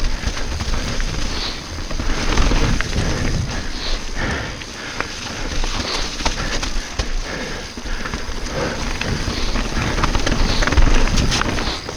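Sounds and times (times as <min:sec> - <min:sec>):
bike chain and frame rattling: 0:00.0 - 0:11.9
bike tyres knocking over rocks: 0:00.0 - 0:11.9
steady rumble: 0:00.0 - 0:11.9.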